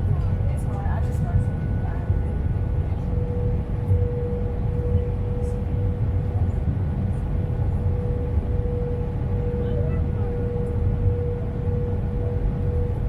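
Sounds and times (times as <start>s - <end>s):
airliner cabin rumble: 0.0s - 13.0s
constant hum tone: 0.0s - 13.0s.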